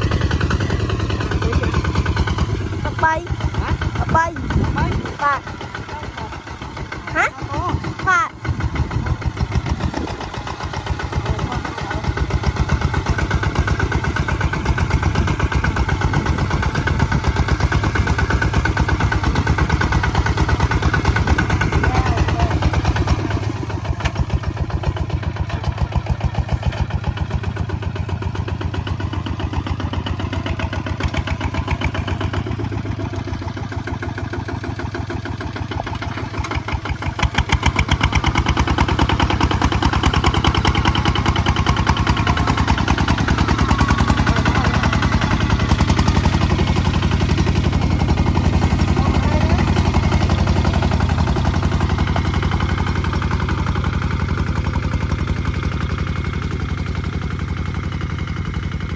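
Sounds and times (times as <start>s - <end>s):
diesel engine chugging: 0.0s - 58.9s.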